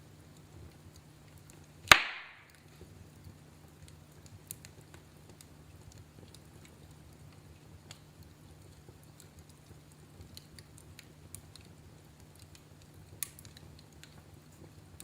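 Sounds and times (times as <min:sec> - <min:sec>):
wood fire crackling: 0:00.0 - 0:15.0
fire snapping: 0:00.2 - 0:15.0.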